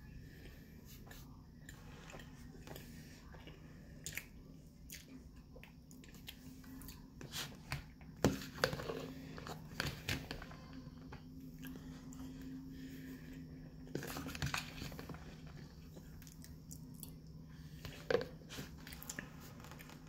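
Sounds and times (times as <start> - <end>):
low steady hum: 0.0 - 20.0
soft chewing: 0.0 - 20.0.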